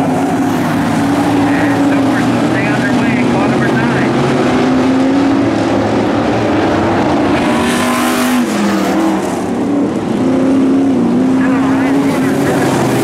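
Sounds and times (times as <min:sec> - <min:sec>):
race car engines at speed: 0:00.0 - 0:13.0.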